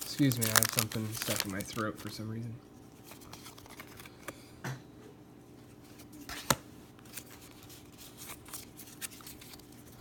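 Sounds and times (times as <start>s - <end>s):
cards and wrapper rustling: 0.0s - 4.4s, 6.3s - 10.0s.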